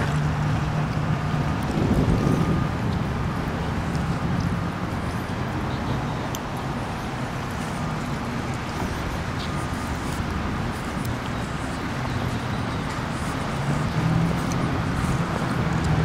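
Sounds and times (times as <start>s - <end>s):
constant rushing noise: 0.0s - 16.0s
low engine hum: 0.0s - 16.0s.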